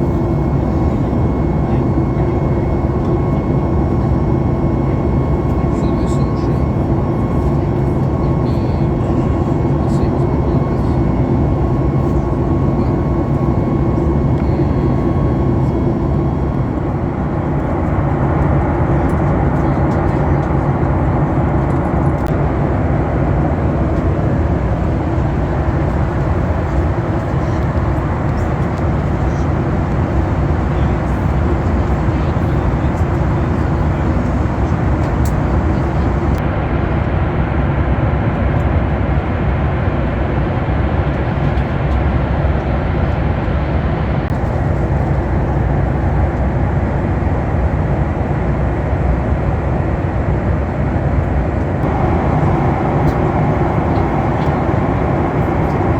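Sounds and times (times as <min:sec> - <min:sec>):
low engine hum: 0:00.0 - 0:36.4, 0:44.3 - 0:55.9
airplane cabin engine rush: 0:00.0 - 0:55.9.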